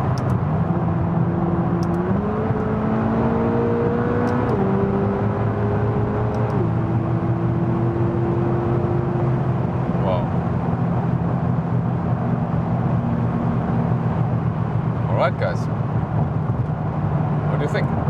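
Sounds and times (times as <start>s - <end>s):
car engine at speed from inside: 0.0s - 18.0s.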